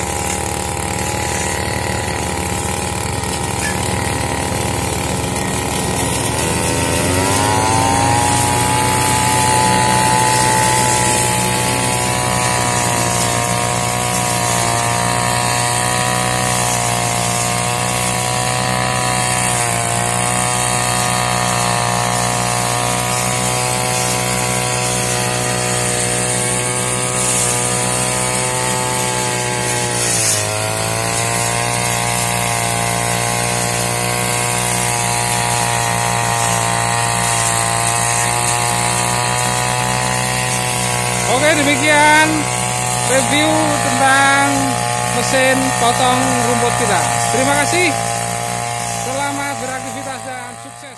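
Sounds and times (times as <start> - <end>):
brush cutter engine revving: 0.0 - 50.9.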